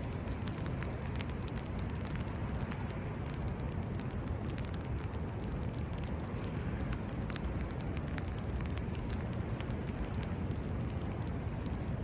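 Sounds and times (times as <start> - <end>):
light ticks: 0.0 - 12.0.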